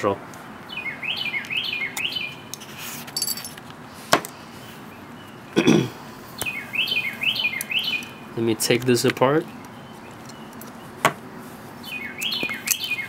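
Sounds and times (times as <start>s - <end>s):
songbird chirping: 0.0s - 2.6s, 4.3s - 13.0s.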